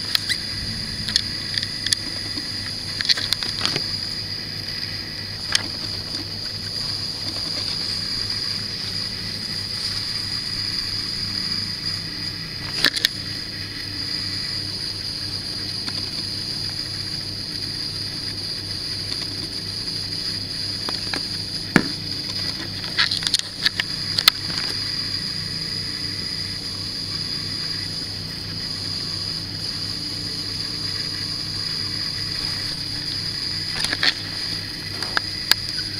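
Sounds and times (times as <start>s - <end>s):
high-pitched whine: 0.0s - 35.9s
steady low hum: 0.0s - 35.9s.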